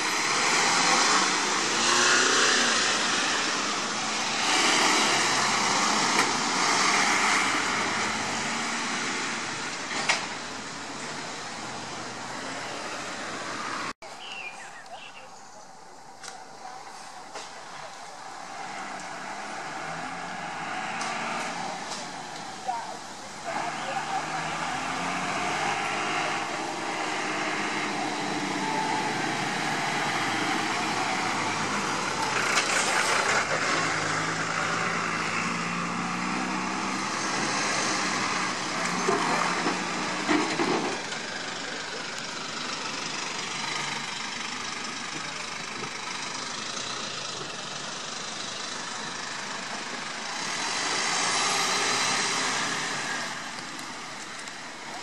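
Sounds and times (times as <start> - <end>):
diesel truck engine pulling away: 0.0 - 14.9, 16.9 - 55.0
tyre and road noise: 0.0 - 55.0
vehicles driving past: 0.0 - 55.0.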